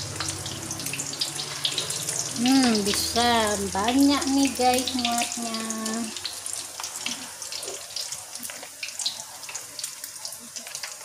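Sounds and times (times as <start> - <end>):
deep-frying sizzle with crackling pops: 0.0 - 11.0.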